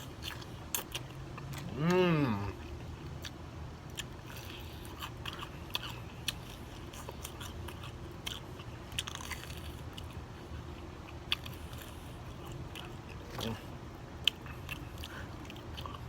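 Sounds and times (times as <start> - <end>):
chewing crispy food: 0.0 - 16.0
low background rumble: 0.0 - 16.0.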